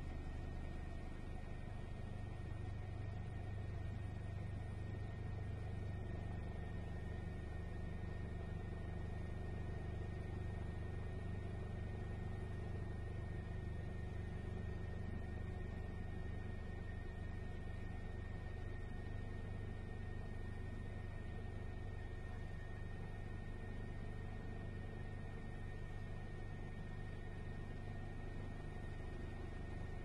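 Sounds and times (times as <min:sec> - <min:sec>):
helicopter rumble inside cabin: 0:00.0 - 0:30.0.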